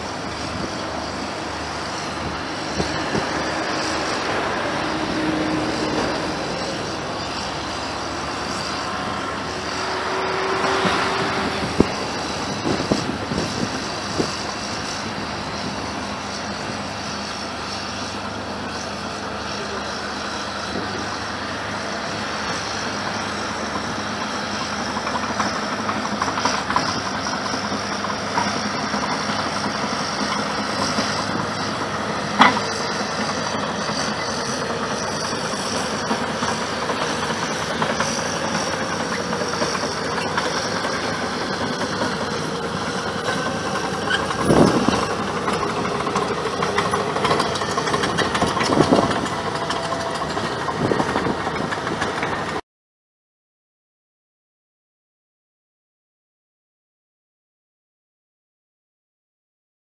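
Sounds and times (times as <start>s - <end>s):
heavy diesel machinery running: 0.0s - 52.6s.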